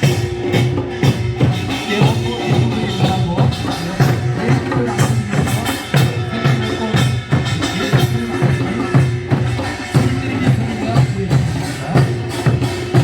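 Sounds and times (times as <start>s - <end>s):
drum strokes: 0.0s - 13.0s.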